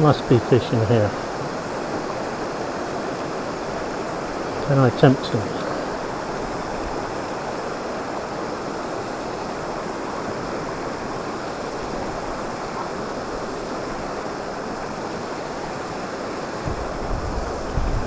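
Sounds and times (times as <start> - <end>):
river rushing over stones: 0.0 - 18.0.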